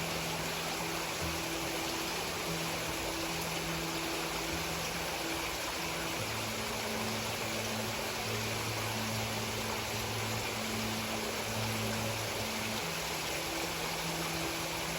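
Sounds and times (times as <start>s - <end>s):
stream water rushing: 0.0s - 14.9s.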